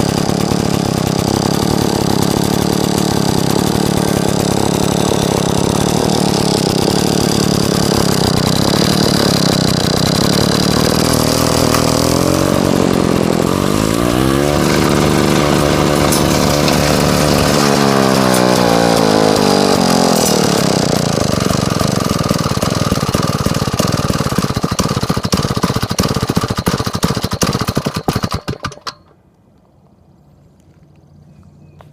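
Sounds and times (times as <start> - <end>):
brush trimmer engine revving: 0.0 - 29.1.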